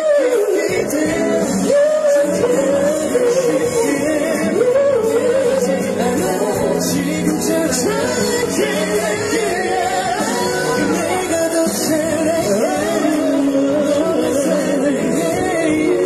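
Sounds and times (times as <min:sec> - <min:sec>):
man singing into microphone: 0:00.0 - 0:16.0
pop music accompaniment: 0:00.0 - 0:16.0.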